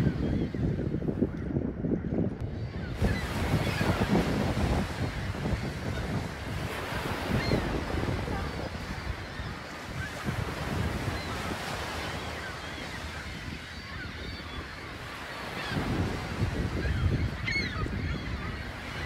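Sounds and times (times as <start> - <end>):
seabirds calling: 0.0 - 1.7, 2.4 - 19.0
wind noise: 0.0 - 19.0.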